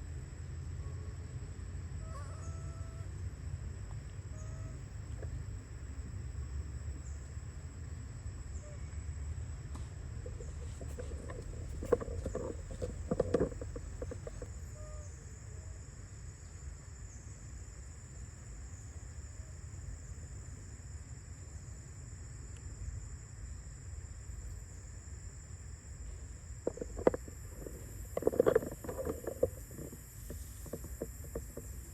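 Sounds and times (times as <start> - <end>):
high insect-like whine: 0.0 - 31.9.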